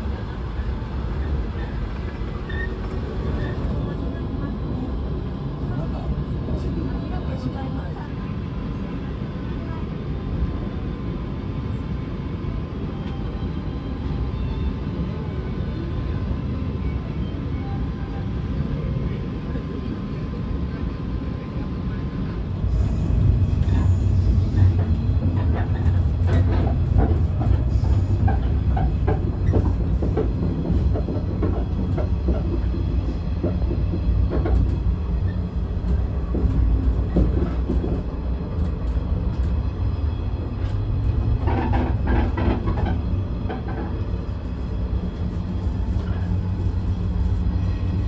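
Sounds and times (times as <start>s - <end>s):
train carriage rumbling: 0.0s - 48.0s.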